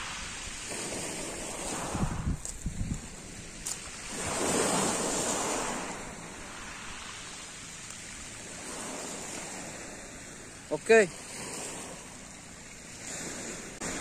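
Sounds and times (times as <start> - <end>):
waves washing on pebble beach: 0.0 - 14.0.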